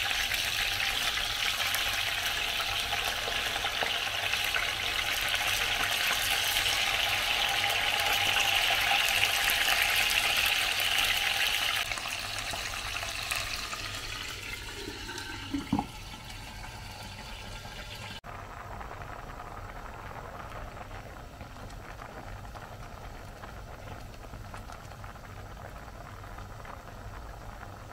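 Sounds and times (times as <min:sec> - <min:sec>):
chicken sizzling in hot oil: 0:00.0 - 0:27.9.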